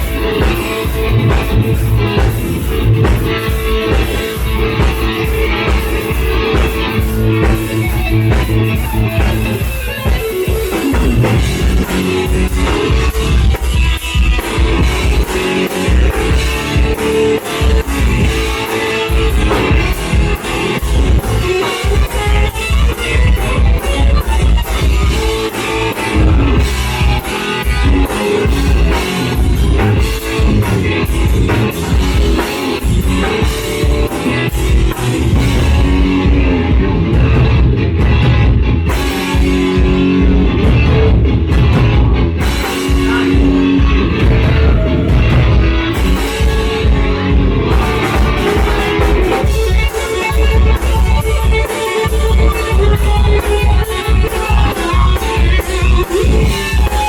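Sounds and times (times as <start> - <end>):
drum kit: 0.0 - 57.0
electric guitar jam: 0.0 - 57.0
heavy bass: 0.0 - 57.0
steady beat: 0.0 - 57.0.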